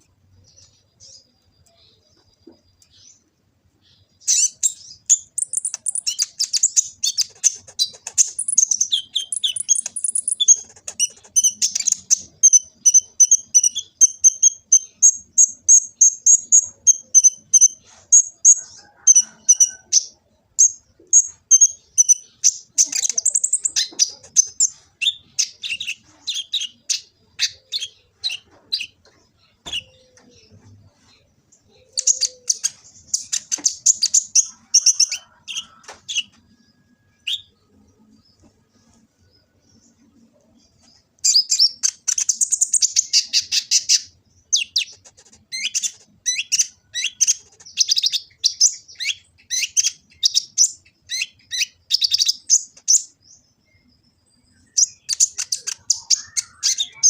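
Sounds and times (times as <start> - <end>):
bird song of rapid chirps and trills: 0.0 - 57.0.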